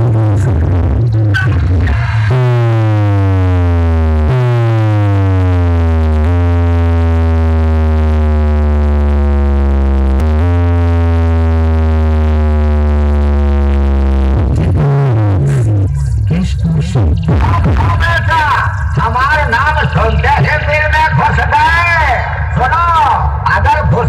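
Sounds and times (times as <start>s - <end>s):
deep buzzy bass tone sliding down: 0.0s - 24.0s.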